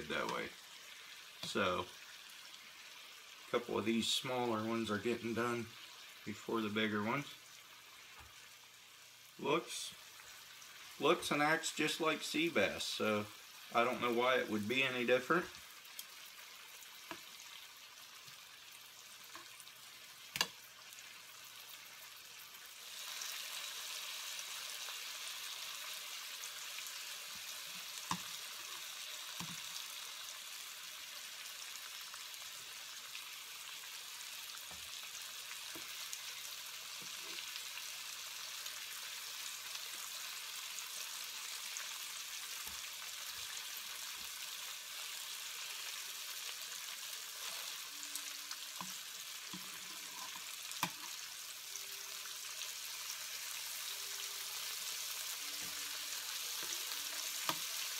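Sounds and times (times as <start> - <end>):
fish frying in a pan: 0.1 - 57.9.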